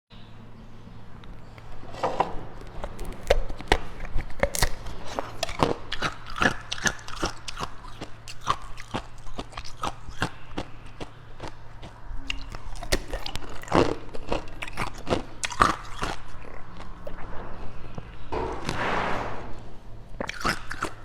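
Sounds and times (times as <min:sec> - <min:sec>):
person chewing ice: 0:02.6 - 0:18.7, 0:20.1 - 0:21.0.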